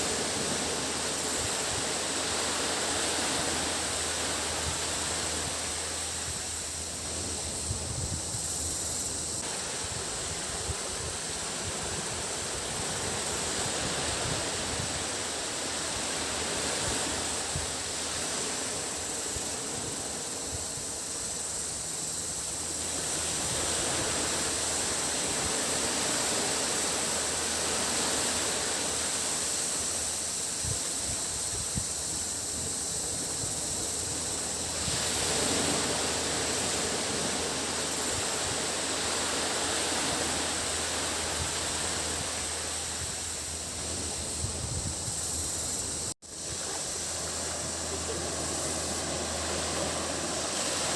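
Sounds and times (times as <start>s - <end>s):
cicadas droning: 0.0s - 50.9s
sea waves washing onto beach: 0.0s - 50.9s.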